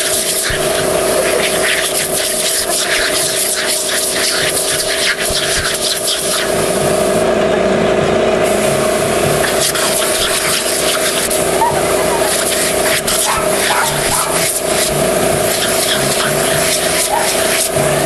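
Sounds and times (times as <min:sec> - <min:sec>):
compressed air hissing from nozzle: 0:00.0 - 0:07.2, 0:08.5 - 0:18.0
steady hum: 0:00.0 - 0:18.0.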